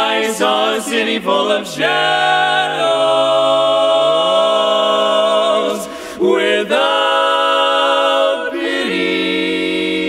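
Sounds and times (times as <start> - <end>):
barbershop quartet singing: 0.0 - 10.0.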